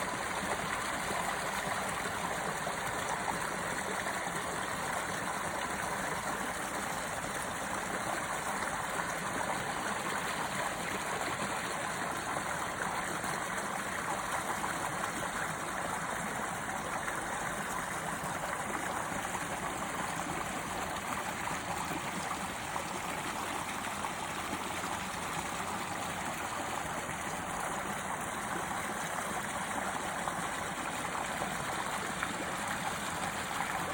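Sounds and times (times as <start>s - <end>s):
running water: 0.0s - 33.9s.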